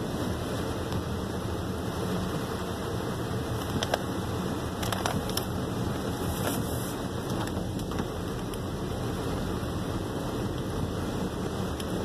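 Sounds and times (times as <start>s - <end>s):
heavy rain on car: 0.0s - 12.0s.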